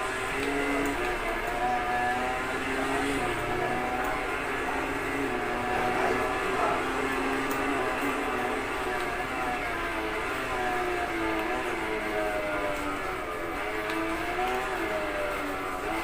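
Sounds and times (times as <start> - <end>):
motorcycle engines running: 0.0 - 16.0.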